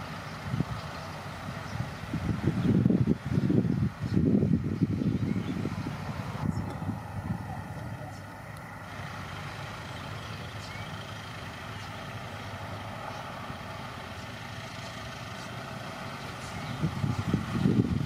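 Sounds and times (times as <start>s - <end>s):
distant diesel truck engine: 0.0s - 18.0s.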